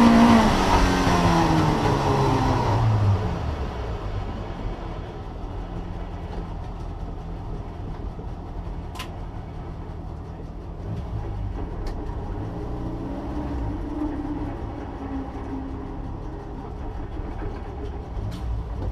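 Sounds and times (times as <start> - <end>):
car engine low rumble: 0.0 - 18.9.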